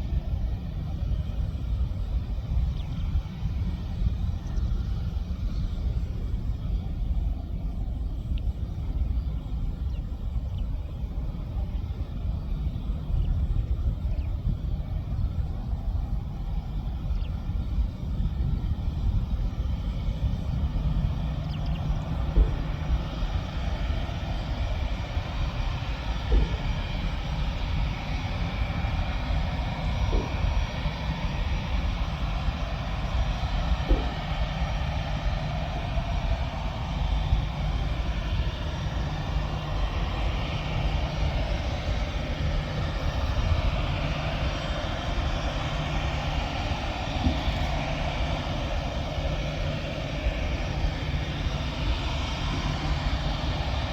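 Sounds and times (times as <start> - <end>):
airliner engines roaring: 0.0 - 53.9.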